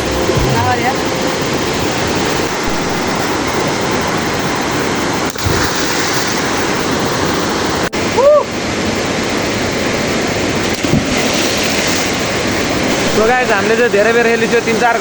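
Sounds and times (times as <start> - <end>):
river water roaring: 0.0 - 13.8.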